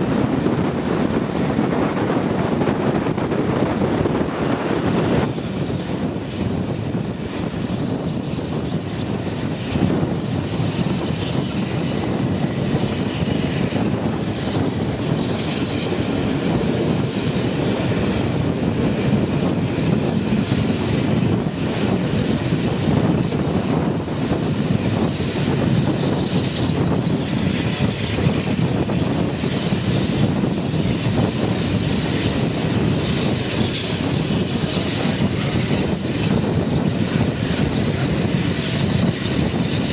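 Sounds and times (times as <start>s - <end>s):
train rolling and rushing: 0.0s - 39.9s
wind buffeting microphone: 0.0s - 39.9s.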